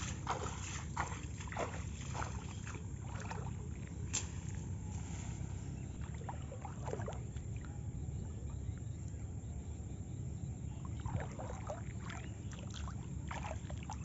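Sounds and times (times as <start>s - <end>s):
small water splashes: 0.0s - 8.7s, 10.8s - 14.0s
steady low rumble: 0.0s - 14.0s.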